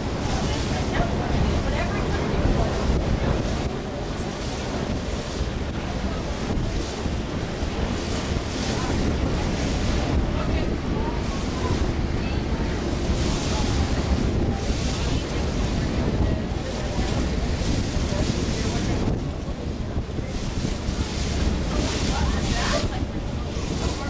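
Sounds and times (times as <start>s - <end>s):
rushing water: 0.0s - 24.0s
wind buffeting microphone: 0.0s - 24.0s.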